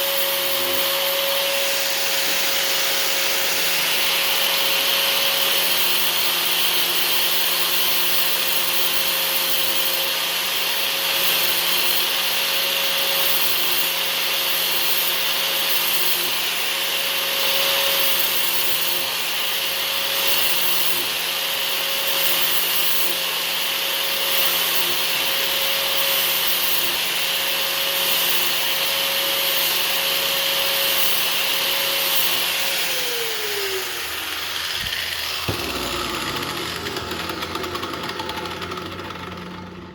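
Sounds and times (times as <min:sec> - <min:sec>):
steel grinding hiss: 0:00.0 - 0:38.6
bench grinder running: 0:00.0 - 0:39.9.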